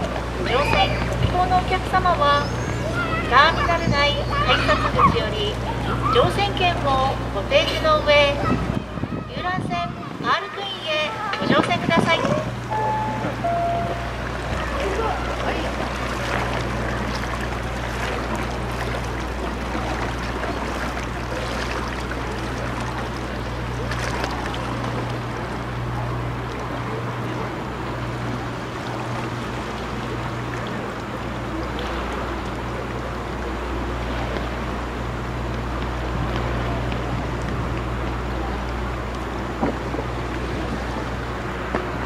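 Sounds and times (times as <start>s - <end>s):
boat engine humming: 0.0s - 42.0s
rushing water and air: 0.0s - 42.0s.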